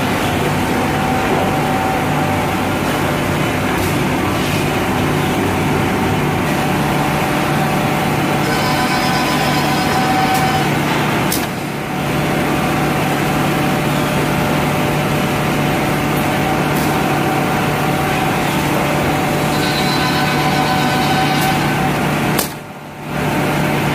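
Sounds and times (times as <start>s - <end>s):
machine motor hum: 0.0s - 23.9s.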